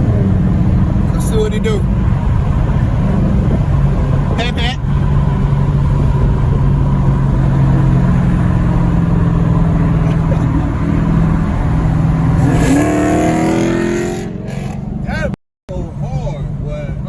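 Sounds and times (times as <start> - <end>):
car exhaust droning: 0.0 - 17.0.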